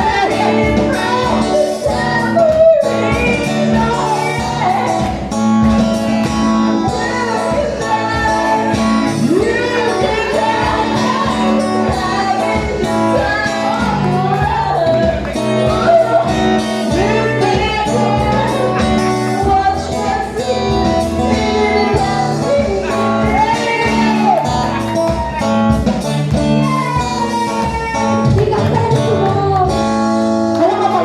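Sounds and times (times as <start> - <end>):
steady drum beat: 0.0 - 30.1
guitar: 0.0 - 31.0
person singing: 0.0 - 31.0.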